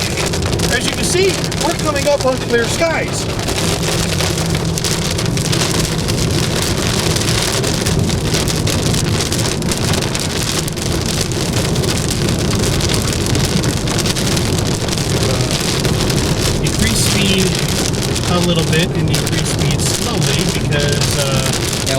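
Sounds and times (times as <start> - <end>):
car driving on wet road: 0.0 - 21.9
heavy rain pelting a car: 0.0 - 21.9.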